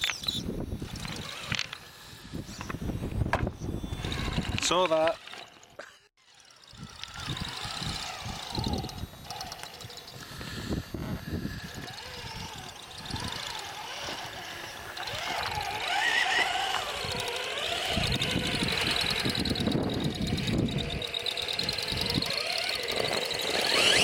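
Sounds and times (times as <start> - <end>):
small electric motor whining: 0.0 - 24.0.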